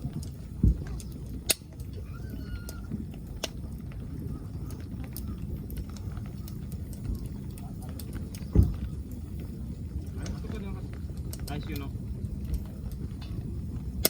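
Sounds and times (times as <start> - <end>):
rain: 0.0 - 14.0
sharp pops from fire: 0.0 - 14.0
wood fire crackling: 0.0 - 14.0.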